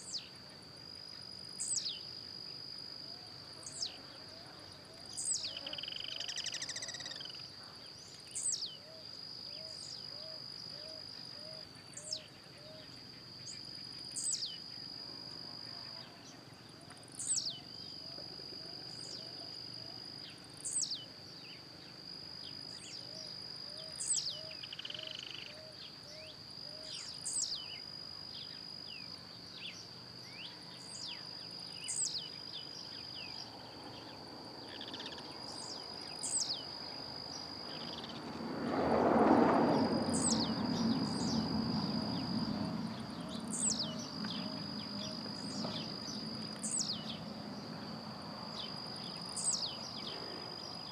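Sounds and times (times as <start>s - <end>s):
high insect drone: 0.0s - 50.9s.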